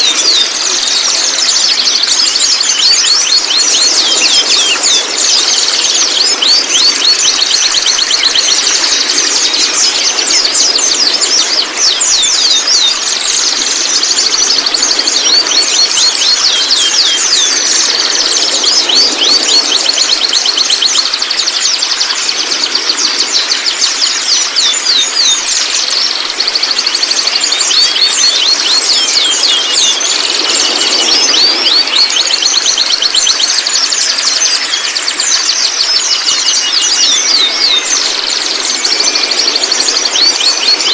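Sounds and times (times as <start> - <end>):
birds chattering high notes: 0.0 - 40.9
steady high hiss and tone: 0.0 - 40.9.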